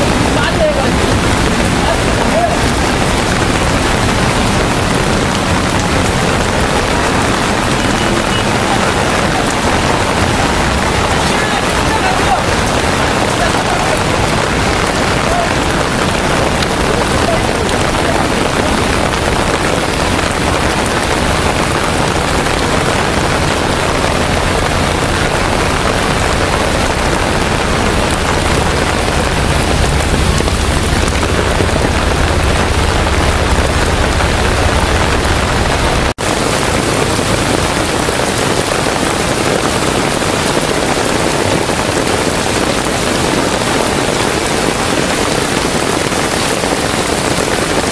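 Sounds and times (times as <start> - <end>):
low rumble: 0.0 - 38.4
heavy rain pouring: 0.0 - 47.9.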